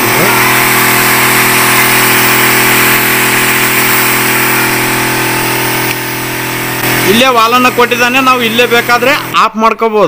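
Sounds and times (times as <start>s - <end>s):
spray nozzle hissing mist: 0.0s - 9.4s
sprayer pump humming: 0.0s - 9.4s.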